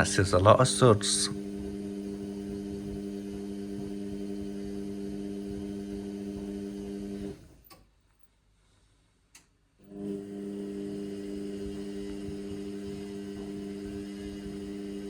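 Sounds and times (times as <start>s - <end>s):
washing machine humming: 0.0s - 7.6s, 9.8s - 15.0s.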